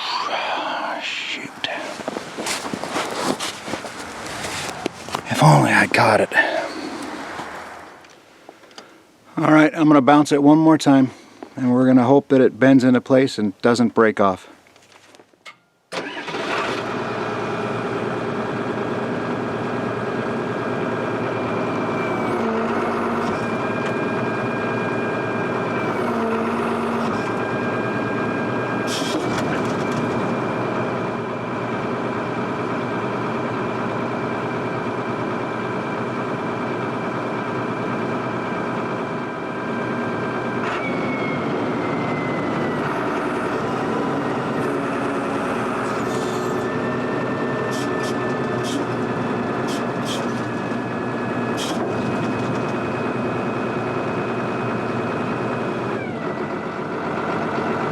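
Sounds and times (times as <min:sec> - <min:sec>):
excavator diesel engine running: 0:00.3 - 0:08.1, 0:16.0 - 0:57.9.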